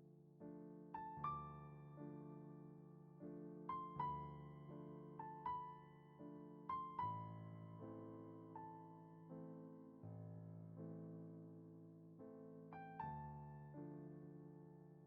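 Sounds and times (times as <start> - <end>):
soft piano-like keyboard music: 0.0 - 15.0.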